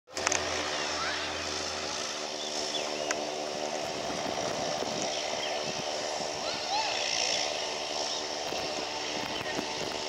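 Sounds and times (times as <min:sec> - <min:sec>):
twin piston aircraft engines: 0:00.1 - 0:10.0.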